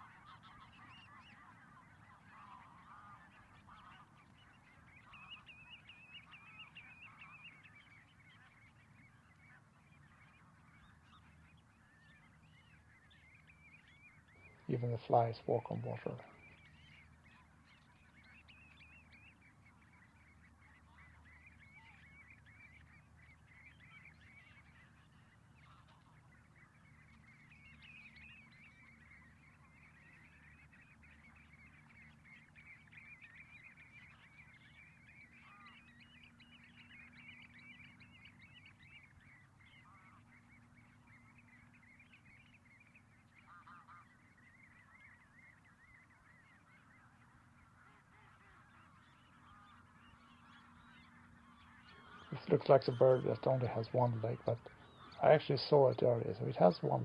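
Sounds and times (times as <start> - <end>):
distant flock of birds calling: 0.0 - 57.0.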